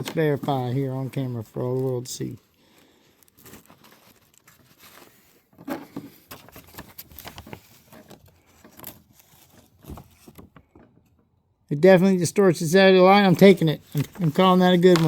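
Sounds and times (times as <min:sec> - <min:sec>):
paper rustling: 0:00.0 - 0:10.8, 0:13.2 - 0:15.0.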